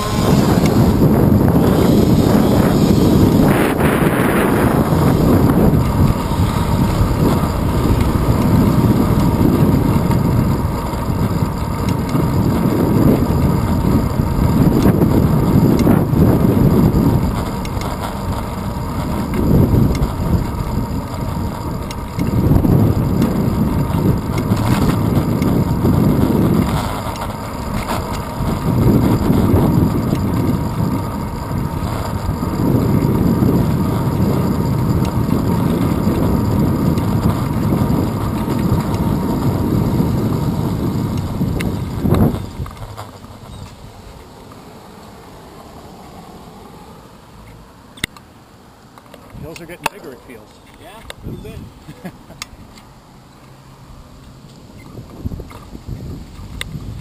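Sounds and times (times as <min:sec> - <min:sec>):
wind buffeting camera: 0:00.0 - 0:48.3, 0:48.9 - 0:57.0.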